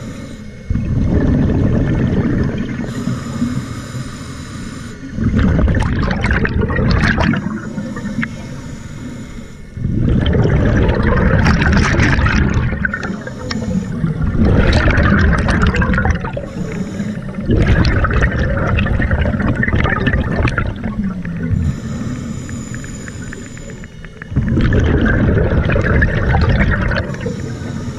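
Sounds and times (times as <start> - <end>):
scuba regulator exhaust bubbling: 0.0 - 3.7, 5.0 - 27.9.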